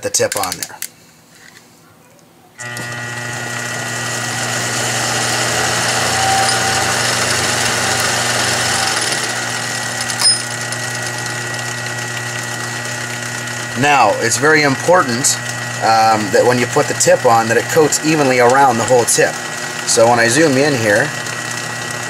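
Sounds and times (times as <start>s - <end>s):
lathe motor hum and whine: 2.6s - 22.0s.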